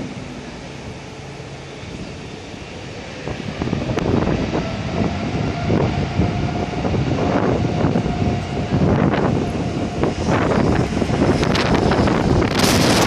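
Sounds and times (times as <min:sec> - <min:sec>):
faint steady engine whine: 0:00.0 - 0:13.0
jet engines roaring at takeoff: 0:00.0 - 0:13.0.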